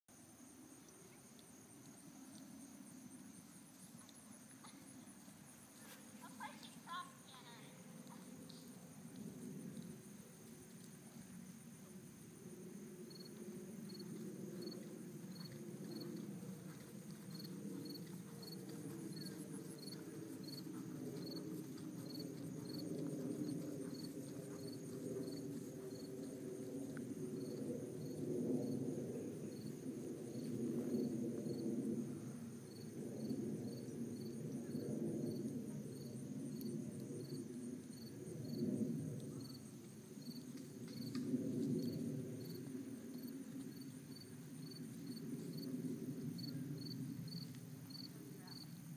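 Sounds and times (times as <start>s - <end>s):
insects chorus: 0.2s - 48.9s.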